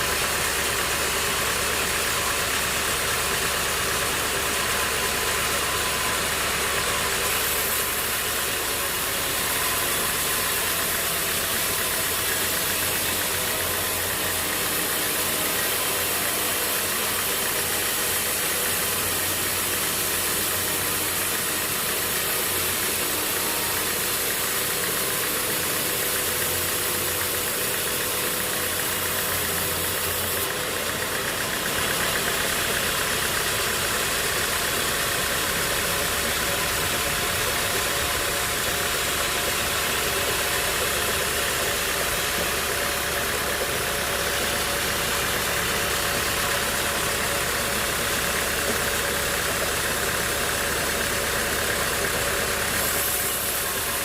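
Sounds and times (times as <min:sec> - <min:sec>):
machinery engine running: 0:00.0 - 0:54.0.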